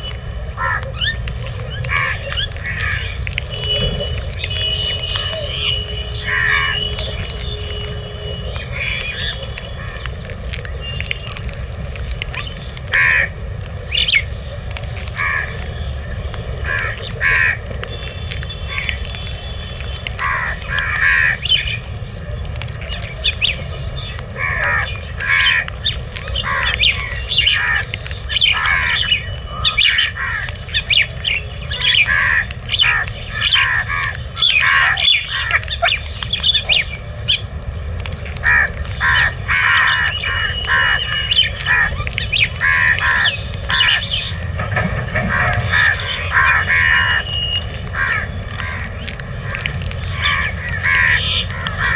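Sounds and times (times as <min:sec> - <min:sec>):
crows cawing: 0:00.6 - 0:10.6, 0:12.3 - 0:14.2, 0:14.9 - 0:15.7, 0:16.6 - 0:17.9, 0:18.7 - 0:19.1, 0:20.1 - 0:21.9, 0:23.9 - 0:37.5, 0:38.2 - 0:51.9.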